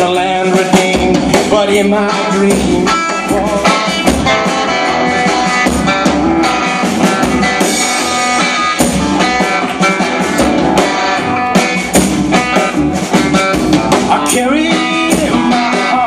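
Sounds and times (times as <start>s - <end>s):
live band playing instrumental: 0.0s - 16.0s.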